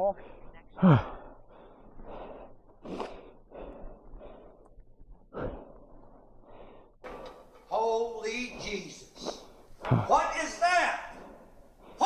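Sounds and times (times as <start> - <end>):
man breathing hard: 0.2 - 7.7, 8.3 - 12.0.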